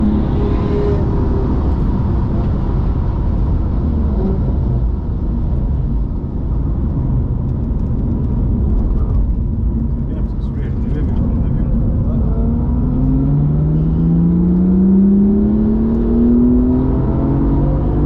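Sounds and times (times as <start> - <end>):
car engine running hard: 0.0 - 18.0
wet tyre and road noise: 0.0 - 18.0.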